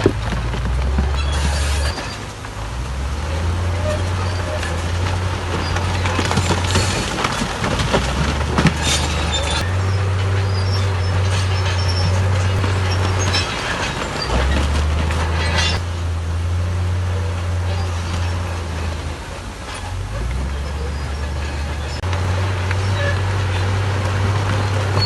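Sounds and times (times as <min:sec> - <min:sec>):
crackling and clattering: 0:00.0 - 0:25.0
heavy diesel machinery drone: 0:00.0 - 0:25.0.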